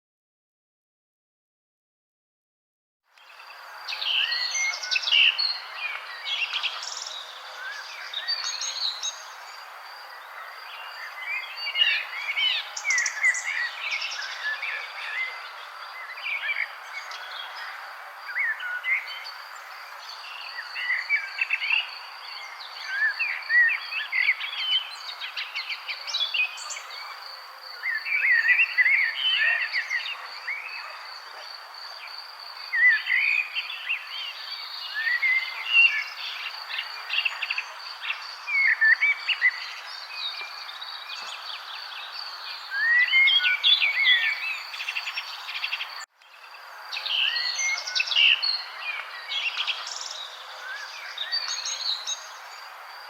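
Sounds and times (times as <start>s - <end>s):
songbirds chirping and singing: 3.2s - 53.0s.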